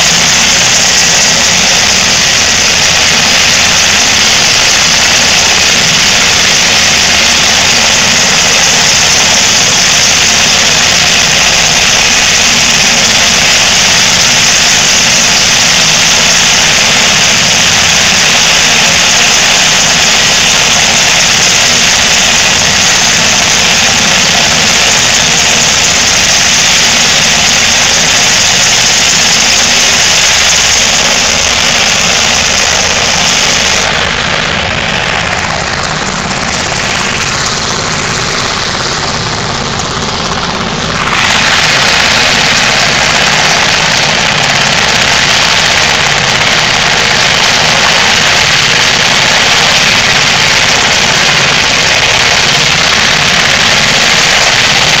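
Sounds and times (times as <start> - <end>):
helicopter turbine and rotor whine: 0.0 - 55.0.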